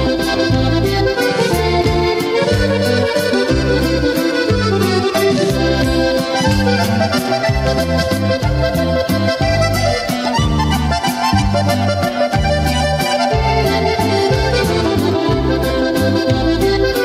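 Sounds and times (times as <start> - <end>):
accordion-led norteno music: 0.0 - 17.0.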